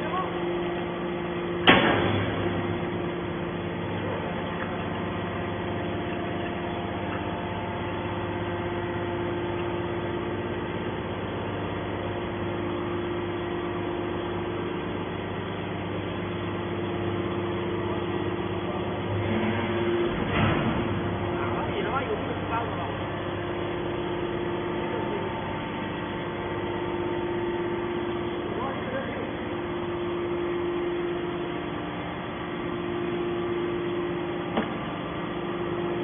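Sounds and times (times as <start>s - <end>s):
hydraulic baler humming: 0.0s - 36.0s.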